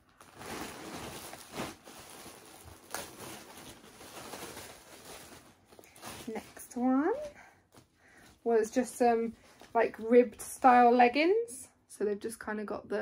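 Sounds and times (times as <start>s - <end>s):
clothes and packaging rustling: 0.0s - 11.4s.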